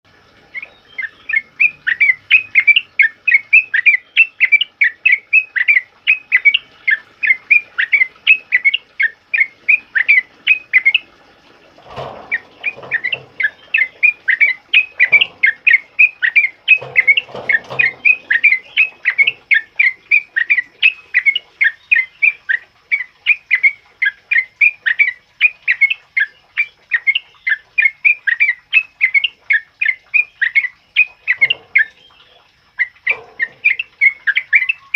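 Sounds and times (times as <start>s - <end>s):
bird rapid chirping song: 0.5s - 11.1s, 11.9s - 34.9s.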